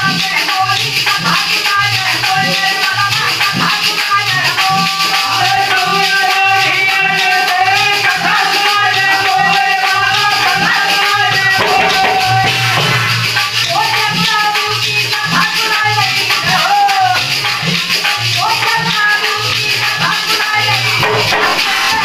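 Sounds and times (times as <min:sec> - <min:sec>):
dholak beat: 0:00.0 - 0:22.0
man singing devotional line: 0:00.0 - 0:22.0
metallic rattling percussion: 0:00.0 - 0:22.0.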